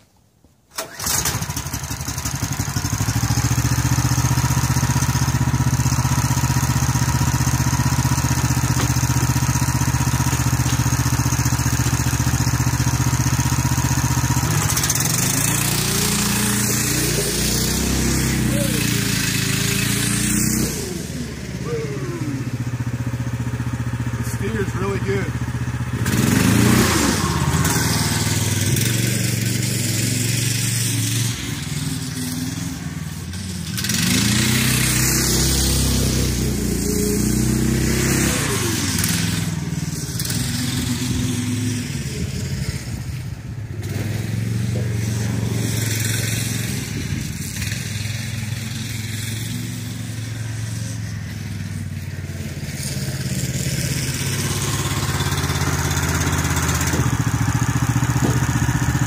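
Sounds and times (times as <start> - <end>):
go-kart engine revving: 0.7 - 59.0.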